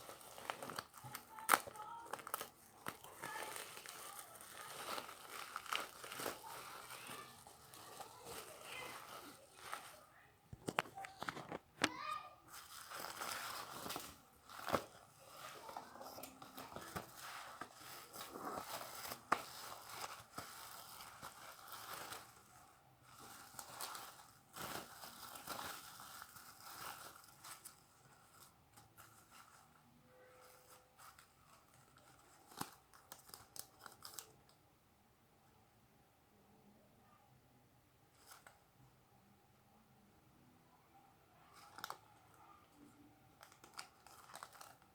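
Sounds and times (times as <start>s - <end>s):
packaging rustling and crackling: 0.0s - 29.8s, 30.4s - 34.6s, 41.6s - 42.1s, 43.4s - 44.9s.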